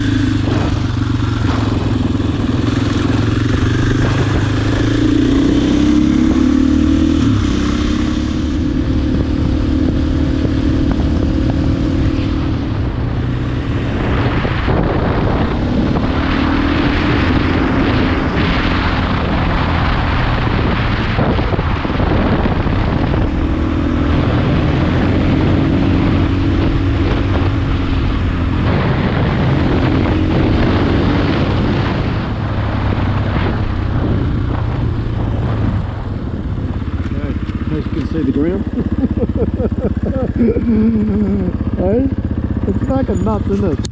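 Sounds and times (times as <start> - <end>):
dirt bike engine revving: 0.0 - 32.2, 37.0 - 43.9
wind on microphone: 0.0 - 43.9.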